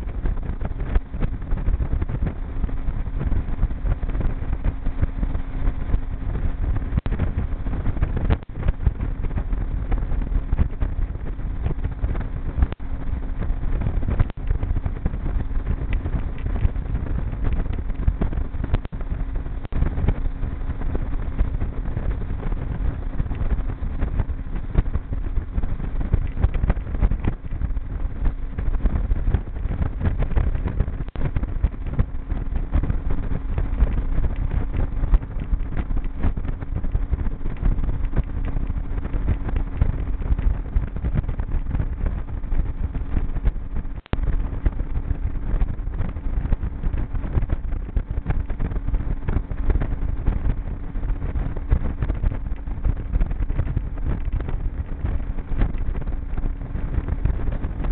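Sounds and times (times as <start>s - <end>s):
outboard motor humming: 0.0s - 57.9s
wind and water rushing: 0.0s - 57.9s.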